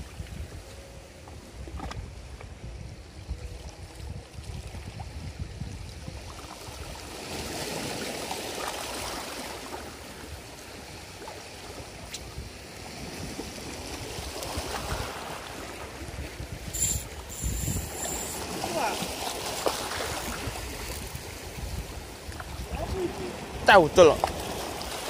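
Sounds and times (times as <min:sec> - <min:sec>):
wind rumbling on microphone: 0:00.0 - 0:25.0
small waves lapping at shore: 0:03.4 - 0:25.0.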